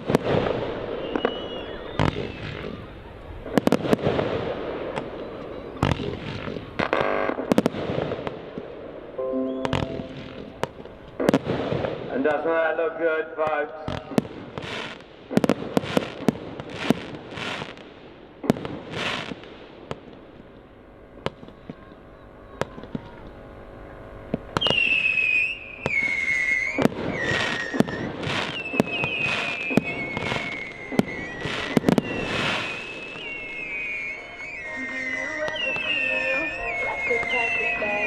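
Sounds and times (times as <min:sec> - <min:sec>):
rushing crackle of fireworks: 0:00.0 - 0:12.8, 0:13.5 - 0:38.0
whistling fireworks: 0:00.0 - 0:12.8, 0:13.5 - 0:20.3, 0:21.2 - 0:38.0.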